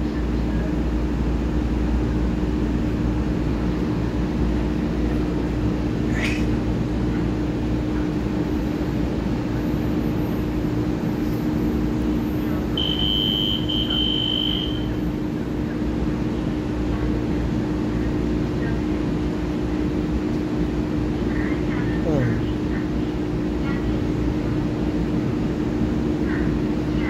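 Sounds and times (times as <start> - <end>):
electric train humming: 0.0 - 27.0.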